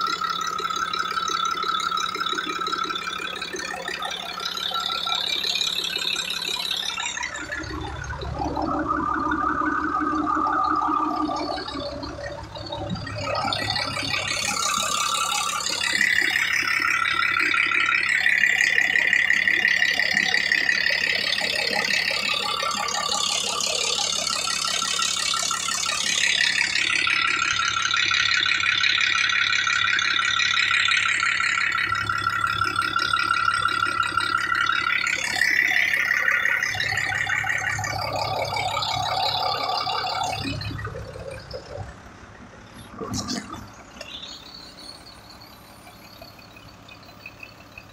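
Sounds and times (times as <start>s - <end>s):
engine knock: 0.0s - 47.9s
truck engine metallic rattle: 0.0s - 47.9s.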